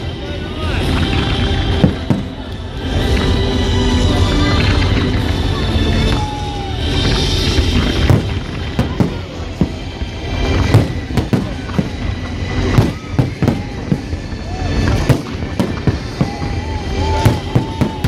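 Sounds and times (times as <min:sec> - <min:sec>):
fireworks bangs: 0:00.8 - 0:03.4, 0:04.8 - 0:18.0.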